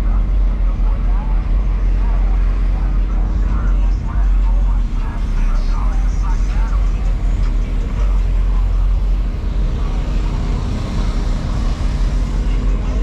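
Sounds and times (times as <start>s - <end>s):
deep rumble of vehicle engines: 0.0s - 13.0s
faint voices: 0.0s - 13.0s.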